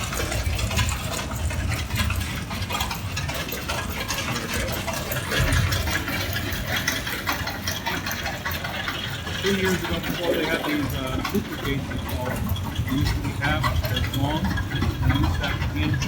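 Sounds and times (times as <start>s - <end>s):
conveyor machinery rattling: 0.0s - 16.0s
truck engine idling: 0.0s - 16.0s.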